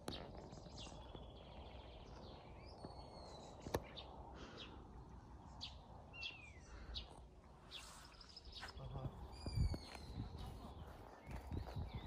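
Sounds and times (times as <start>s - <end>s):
low wind rumble: 0.0s - 12.0s
small birds chirping: 0.0s - 12.0s.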